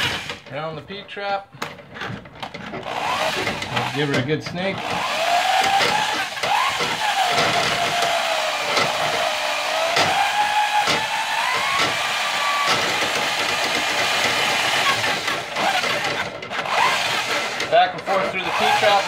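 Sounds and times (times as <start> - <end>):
drill motor whine: 0.0 - 0.4, 2.8 - 4.2, 4.8 - 19.0.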